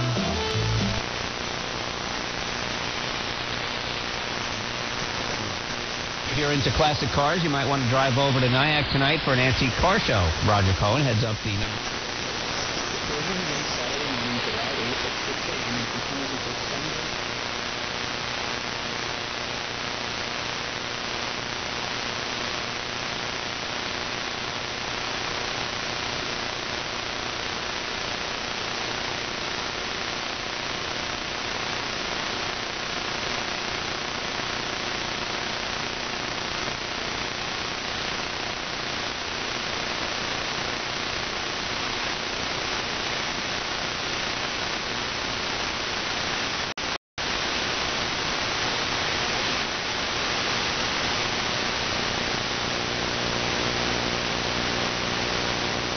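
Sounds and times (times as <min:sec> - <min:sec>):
radio static hiss: 0:00.0 - 0:55.9.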